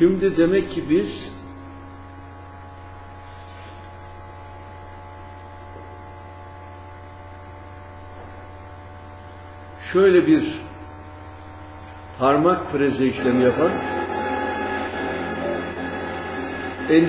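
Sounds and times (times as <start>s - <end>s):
electrical mains hum: 0.0s - 17.0s
faint constant tones: 0.0s - 17.0s.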